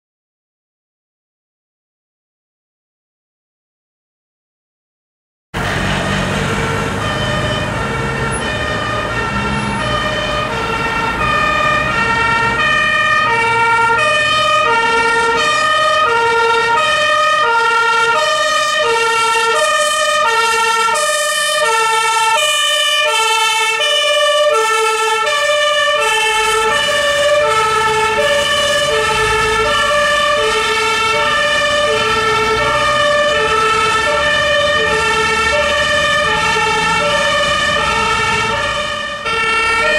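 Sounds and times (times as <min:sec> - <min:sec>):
truck engine driving past: 0:05.6 - 0:39.9
two-tone fire engine siren: 0:05.6 - 0:39.9.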